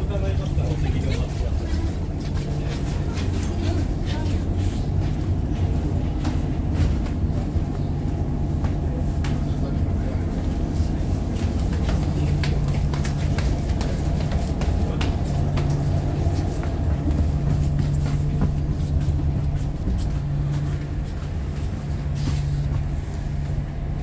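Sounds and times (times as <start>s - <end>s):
ship engine drone: 0.0s - 24.0s
steady hum: 0.0s - 24.0s.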